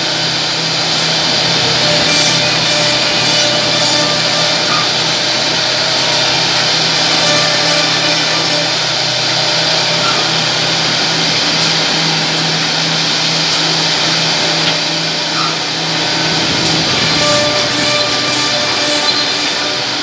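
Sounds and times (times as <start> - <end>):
machine router cutting wood: 0.0 - 20.0
motor hum: 0.0 - 20.0.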